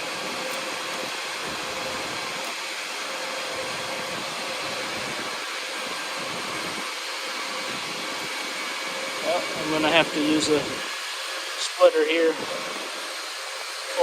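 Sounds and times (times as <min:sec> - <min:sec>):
cooling fans whirring: 0:00.0 - 0:14.0.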